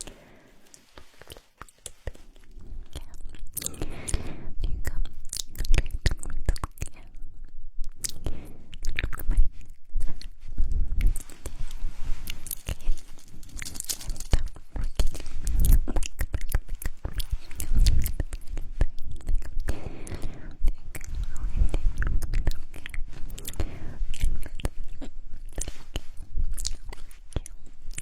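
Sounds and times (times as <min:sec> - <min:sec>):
lip and mouth clicks: 0:00.6 - 0:28.0.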